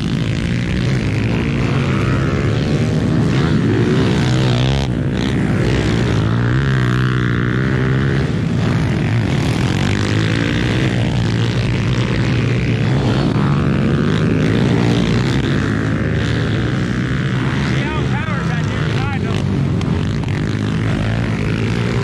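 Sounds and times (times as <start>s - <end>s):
pit bike engine revving: 0.0s - 22.0s.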